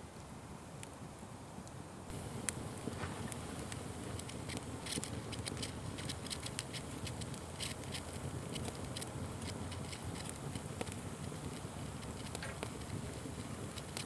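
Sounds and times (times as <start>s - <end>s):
fire crackling and popping: 1.6s - 14.0s
low rush of burning: 2.1s - 14.0s.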